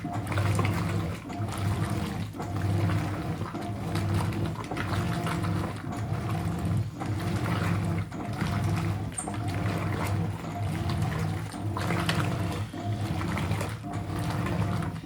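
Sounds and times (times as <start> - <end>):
washing machine motor hum: 0.0 - 15.0
water sloshing: 0.0 - 15.0.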